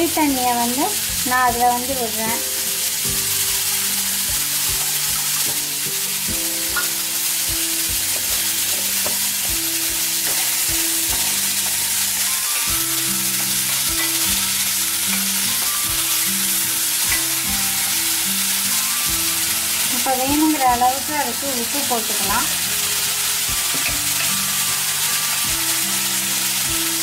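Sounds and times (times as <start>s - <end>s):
soft background music: 0.0s - 27.0s
vegetables sizzling in oil: 0.0s - 27.0s.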